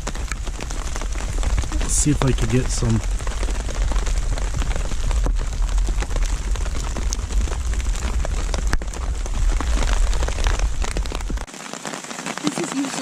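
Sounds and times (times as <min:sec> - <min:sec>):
low rumble: 0:00.0 - 0:11.5
hailstones ticking on surfaces: 0:00.0 - 0:13.0
rain and hail falling: 0:00.0 - 0:13.0.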